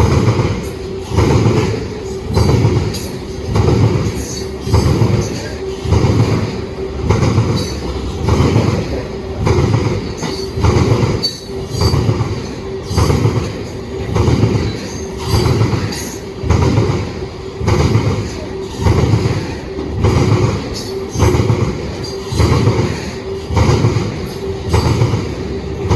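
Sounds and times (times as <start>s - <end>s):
train wheels clattering over rail joints: 0.0s - 25.9s.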